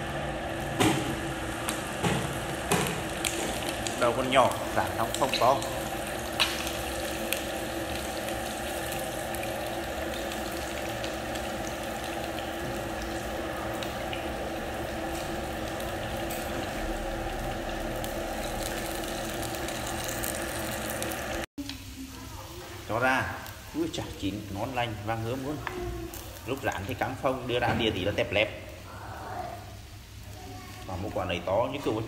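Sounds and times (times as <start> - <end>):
sausages sizzling in oil: 0.0 - 32.0.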